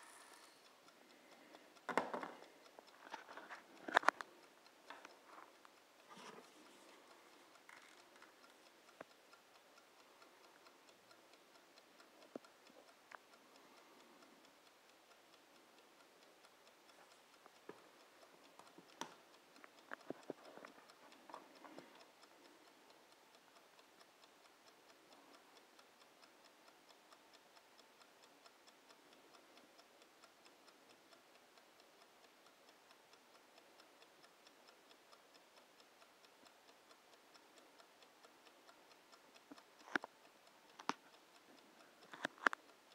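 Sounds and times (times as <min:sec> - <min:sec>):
kitchen timer ticking: 0:00.0 - 0:42.9
sharp timer clicks: 0:00.0 - 0:42.9.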